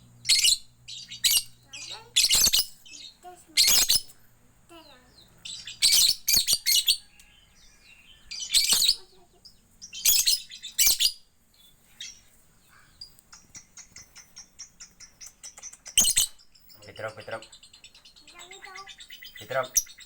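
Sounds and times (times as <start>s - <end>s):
small high bird chirps: 0.0s - 20.0s
lovebird piercing calls: 0.2s - 4.2s, 4.8s - 20.0s.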